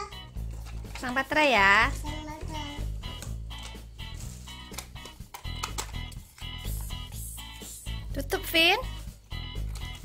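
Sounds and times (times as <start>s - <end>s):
background music with bass line: 1.4s - 10.0s.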